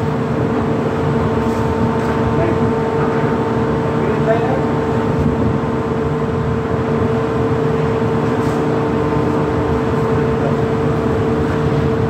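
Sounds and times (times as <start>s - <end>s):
machinery rumble and hum: 0.0s - 12.0s.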